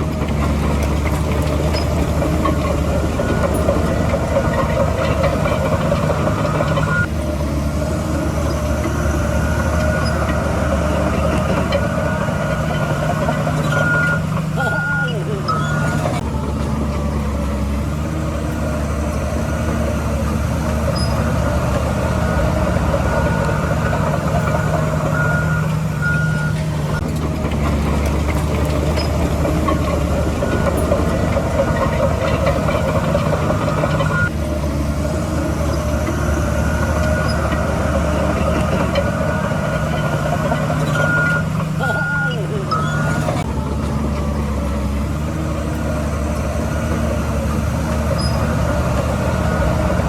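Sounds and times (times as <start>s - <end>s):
heavy diesel machinery running: 0.0s - 50.0s
reversing alarm beeping: 0.6s - 7.1s, 8.1s - 17.2s, 18.4s - 27.0s, 28.0s - 34.3s, 35.3s - 43.9s, 45.9s - 50.0s.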